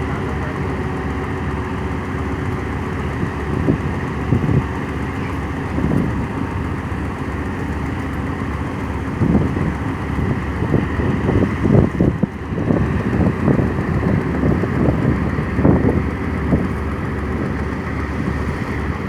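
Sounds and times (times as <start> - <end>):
diesel engine running: 0.0 - 19.0
wind buffeting microphone: 1.1 - 19.0.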